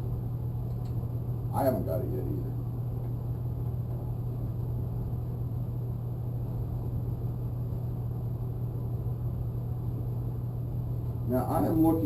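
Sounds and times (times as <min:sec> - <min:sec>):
rumbling background noise: 0:00.0 - 0:12.0
steady low hum: 0:00.0 - 0:12.0.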